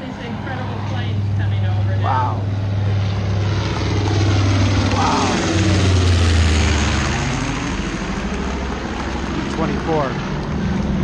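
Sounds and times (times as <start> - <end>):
propeller planes flying overhead: 0.0 - 11.0.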